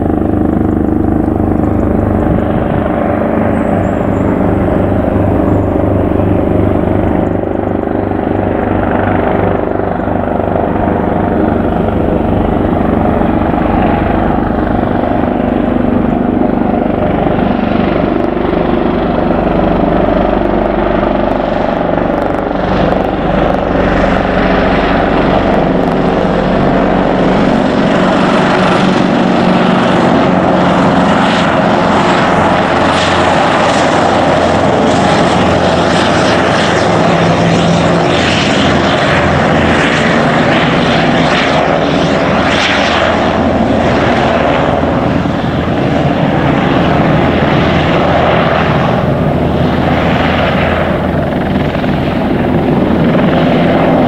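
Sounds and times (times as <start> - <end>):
helicopter rotor beating: 0.0 - 54.0
turbine engine whine: 0.0 - 54.0.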